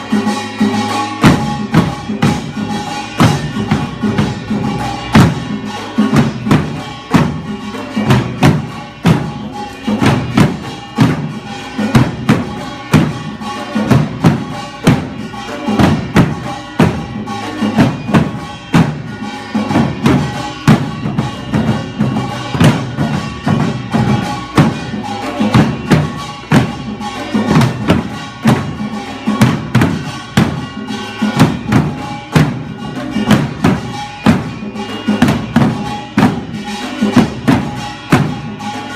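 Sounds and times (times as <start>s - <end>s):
barrel drums in fast rhythm: 0.0s - 38.9s.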